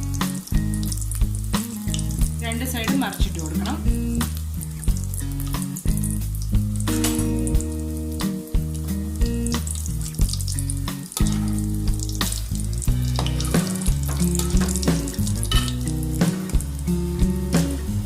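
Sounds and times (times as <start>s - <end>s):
background music with beat: 0.0s - 18.0s
food sizzling in hot oil: 0.0s - 18.0s.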